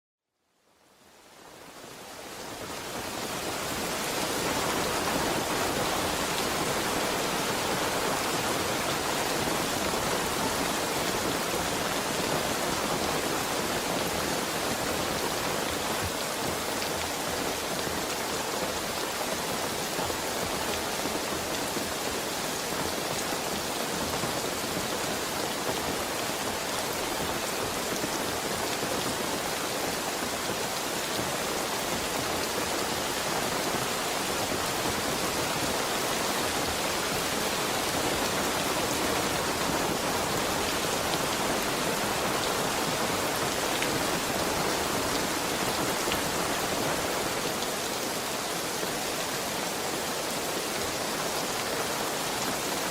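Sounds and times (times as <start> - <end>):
heavy rain falling: 0.9 - 52.9.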